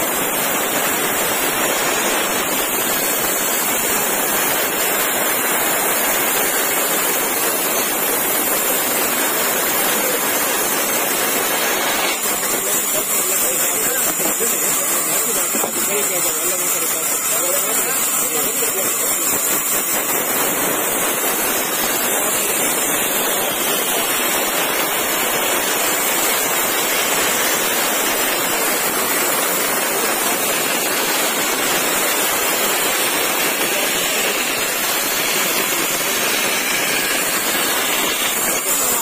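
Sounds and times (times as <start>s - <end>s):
band saw cutting wood: 0.0s - 39.0s.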